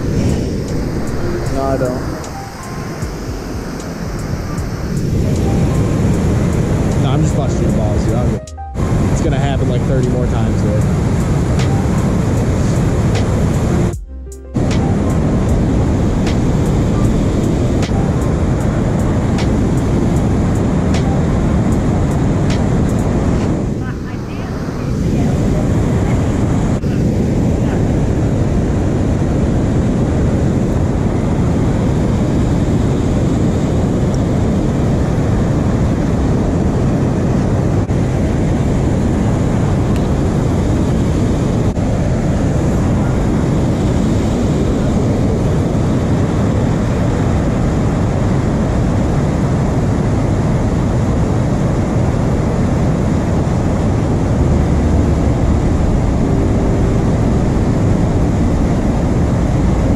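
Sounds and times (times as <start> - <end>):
turbulent river water rushing: 0.0 - 14.0, 14.6 - 59.9.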